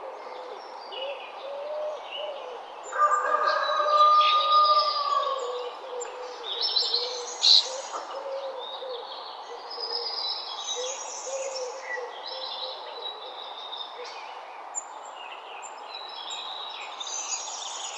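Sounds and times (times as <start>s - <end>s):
birds chirping and trilling: 0.0s - 17.9s.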